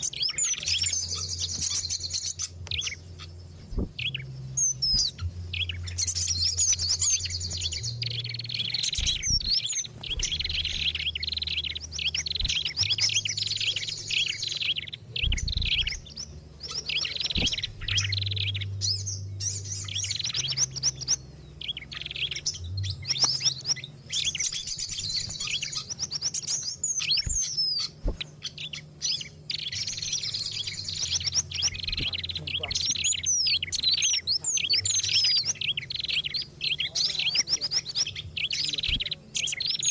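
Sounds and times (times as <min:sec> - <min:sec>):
low hum: 0:00.0 - 0:36.7
songbirds chirping and trilling: 0:00.0 - 0:39.9.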